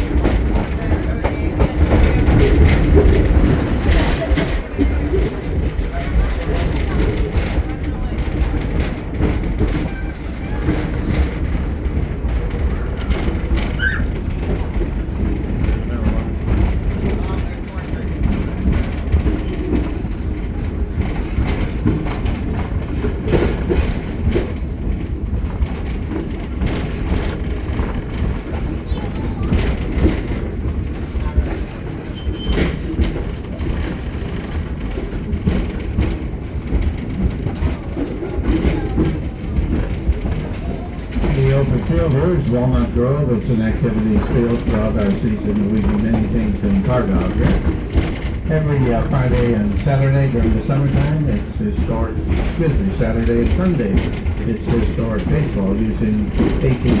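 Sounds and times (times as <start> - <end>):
train car rumbling on track: 0.0 - 57.0
wheels knocking and clattering: 0.0 - 57.0.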